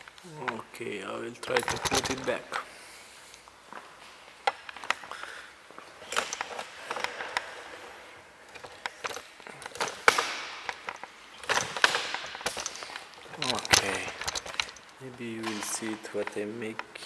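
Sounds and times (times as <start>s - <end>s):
clicks and knocks of handle parts: 1.4s - 2.7s, 3.6s - 17.0s.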